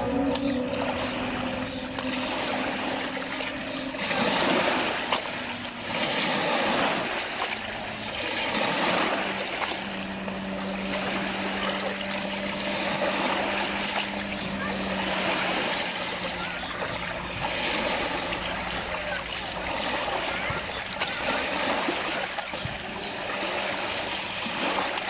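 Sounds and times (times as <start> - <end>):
steady low hum: 0.0 - 25.0
water lapping: 0.0 - 25.0.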